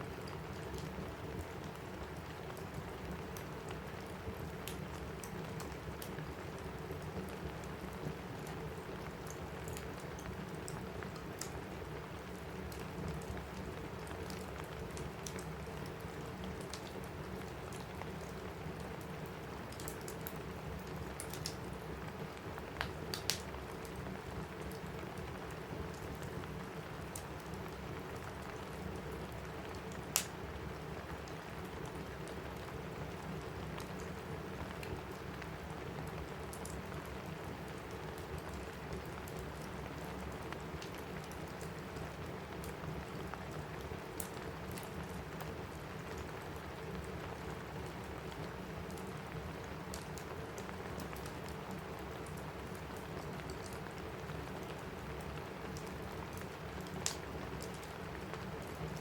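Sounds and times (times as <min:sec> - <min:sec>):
rain on a roof: 0:00.0 - 0:59.0
wood fire crackling and popping: 0:00.1 - 0:59.0.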